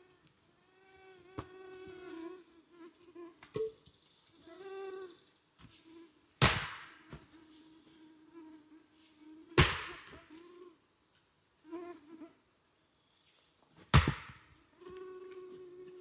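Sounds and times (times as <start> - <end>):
insect buzzing: 0.0 - 10.8, 11.6 - 12.4, 14.7 - 16.0.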